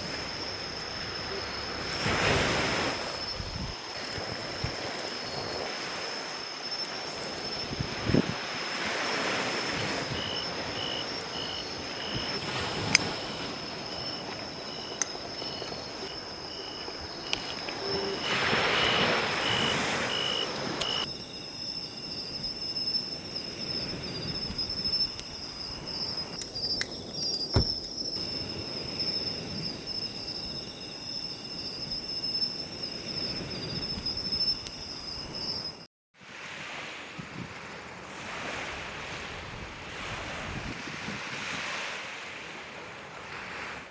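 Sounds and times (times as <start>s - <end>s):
crickets chirring: 0.0s - 35.9s, 38.1s - 42.4s
high steady insect trill: 0.0s - 35.9s
short insect chirps: 0.0s - 35.9s
soft surf: 0.0s - 43.9s.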